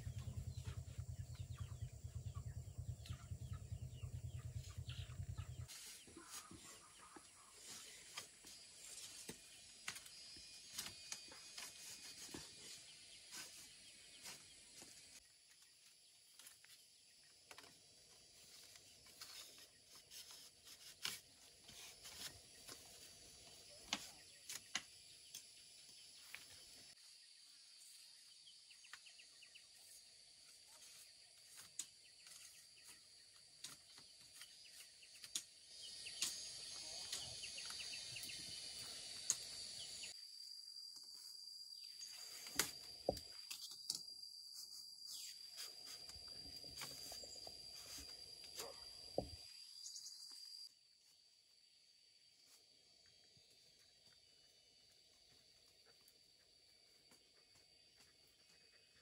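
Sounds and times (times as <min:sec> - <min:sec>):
insects chirring: 0:07.6 - 0:59.0.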